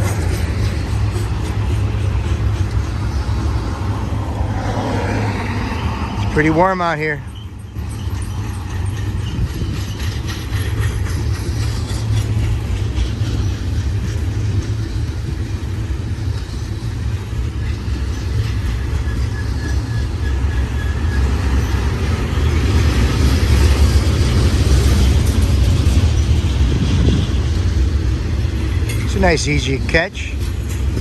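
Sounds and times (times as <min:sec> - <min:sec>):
freight train rolling on rails: 0:00.0 - 0:31.0.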